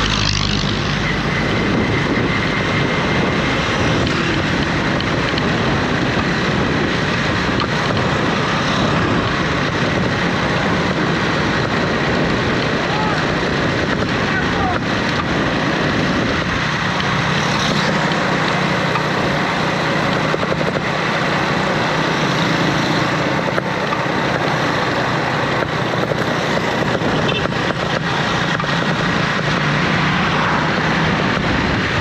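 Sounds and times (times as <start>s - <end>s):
bus engine droning: 0.0s - 32.0s.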